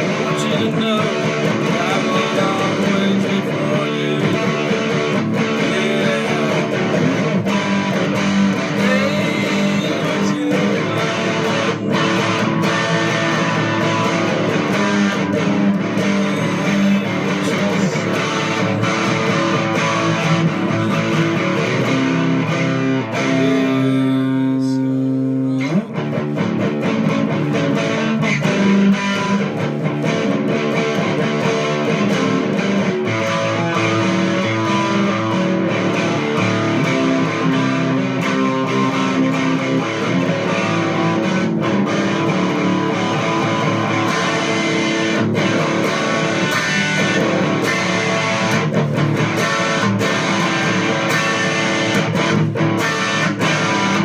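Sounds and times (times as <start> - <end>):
bass guitar: 0.0 - 54.0
electric guitar: 0.0 - 54.0.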